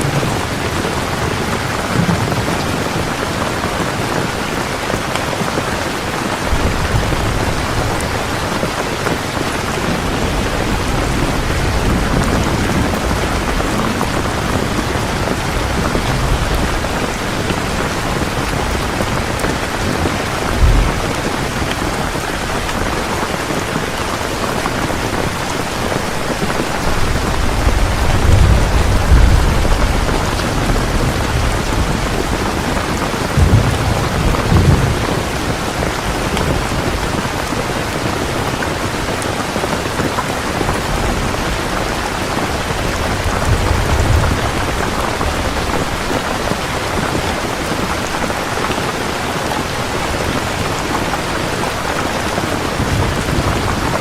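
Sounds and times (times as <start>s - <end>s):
low thunder rumbling: 0.0s - 38.8s, 40.0s - 48.3s
heavy rain falling: 0.0s - 54.0s.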